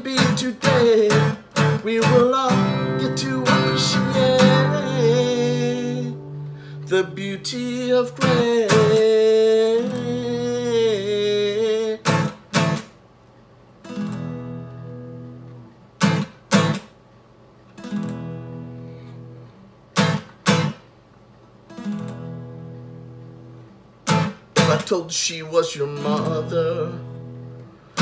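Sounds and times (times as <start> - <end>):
acoustic guitar strumming: 0.0 - 13.0, 13.8 - 17.0, 17.8 - 20.9, 21.7 - 28.0.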